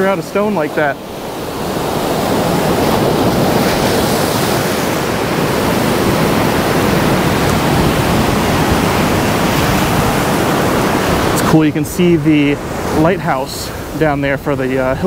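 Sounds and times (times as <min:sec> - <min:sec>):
surf breaking on sand: 0:00.0 - 0:15.0
wind on microphone: 0:00.0 - 0:15.0.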